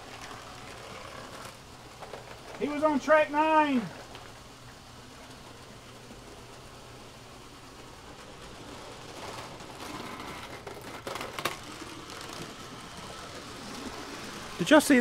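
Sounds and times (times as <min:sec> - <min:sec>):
model train wheels and motors rattling: 0:00.0 - 0:15.0.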